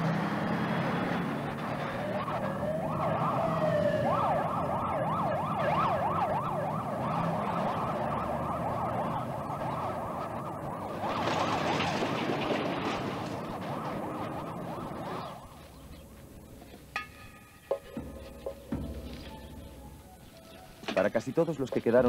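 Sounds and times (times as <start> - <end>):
city traffic din: 0.0 - 22.0
sirens wailing: 0.0 - 22.0.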